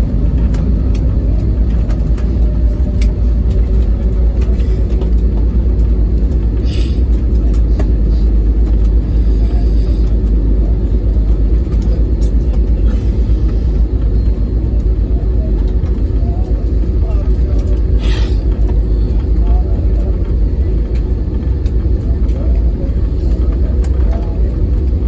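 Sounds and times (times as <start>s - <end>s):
aircraft cabin engine rumble: 0.0s - 25.0s.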